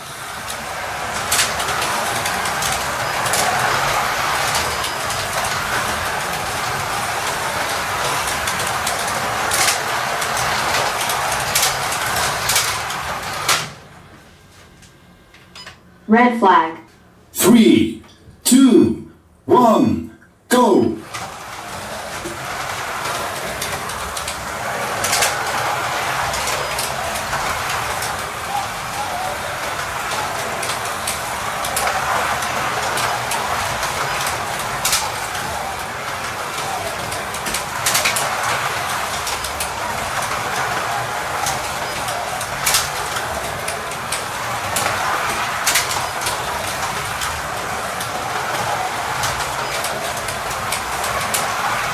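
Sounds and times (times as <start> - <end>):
slot car motors whirring: 0.0 - 14.1, 20.5 - 51.9
guide braids running on rails: 0.0 - 15.7, 20.5 - 51.9.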